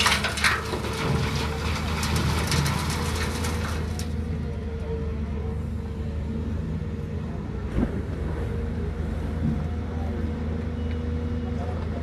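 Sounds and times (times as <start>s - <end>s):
excavator diesel engine drone: 0.0s - 12.0s.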